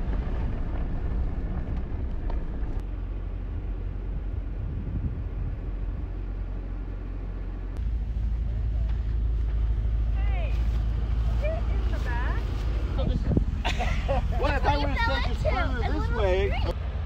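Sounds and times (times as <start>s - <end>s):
vehicle rumbling on gravel: 0.0s - 17.0s.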